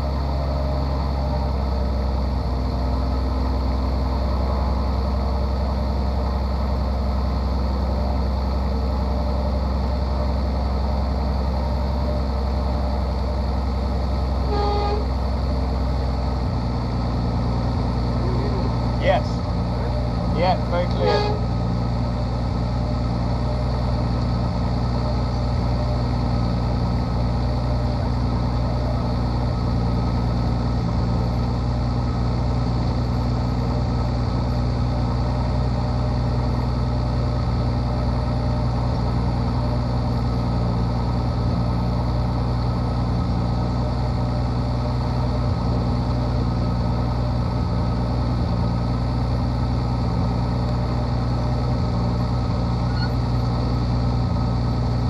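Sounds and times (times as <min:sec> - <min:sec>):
piston engine idling: 0:00.0 - 0:55.0.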